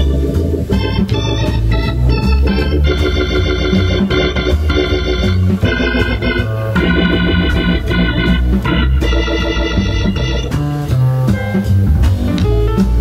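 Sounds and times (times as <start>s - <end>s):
bass line: 0.0s - 13.0s
hammond organ jazz improvisation: 0.0s - 13.0s
piano solo: 0.0s - 13.0s.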